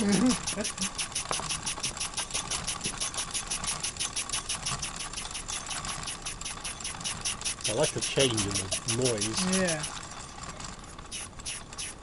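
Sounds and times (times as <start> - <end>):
model steam engine chuffing: 0.0 - 12.0.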